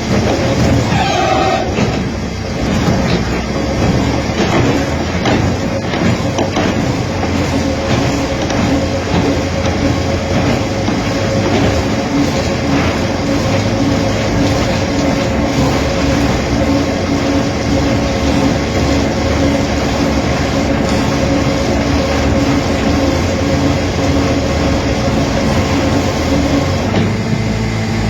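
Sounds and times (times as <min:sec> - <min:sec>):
woodworking machine running: 0:00.0 - 0:28.0.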